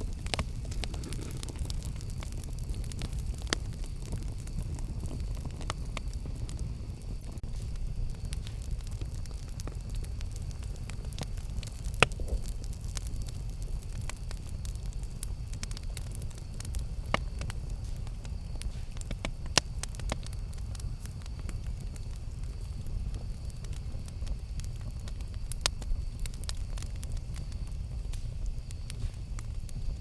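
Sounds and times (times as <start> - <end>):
burning wood crackling and popping: 0.0 - 30.0
campfire flames rumbling: 0.0 - 30.0.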